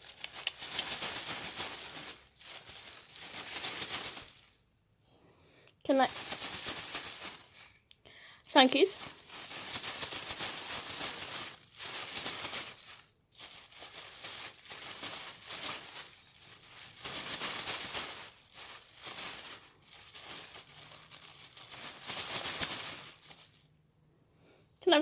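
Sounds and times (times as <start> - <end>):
bird crinkling object: 0.0 - 4.6, 5.9 - 23.8.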